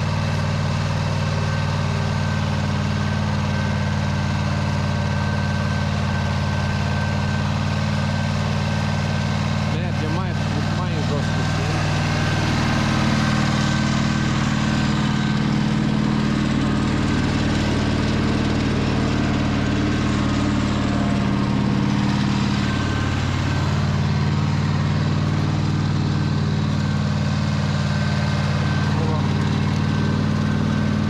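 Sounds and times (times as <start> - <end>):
tractor engine under load: 0.0 - 31.0.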